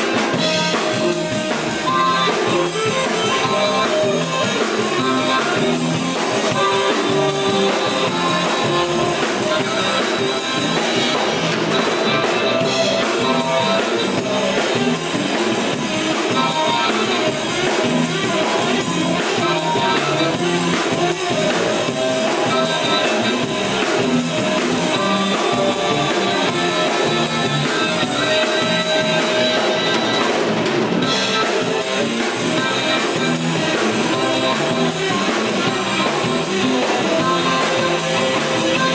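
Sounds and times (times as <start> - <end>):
electric blues band playing: 0.0 - 38.9
harmonica lead: 0.0 - 38.9.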